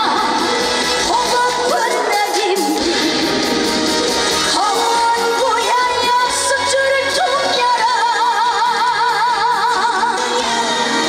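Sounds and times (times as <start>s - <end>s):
woman singing: 0.0s - 3.6s, 4.4s - 11.0s
band accompaniment: 0.0s - 11.0s.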